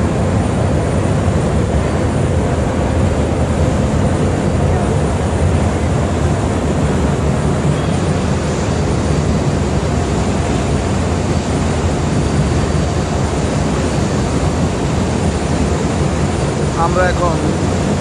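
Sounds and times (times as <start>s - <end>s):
propeller wake rushing: 0.0s - 18.0s
ship engine droning: 0.0s - 18.0s.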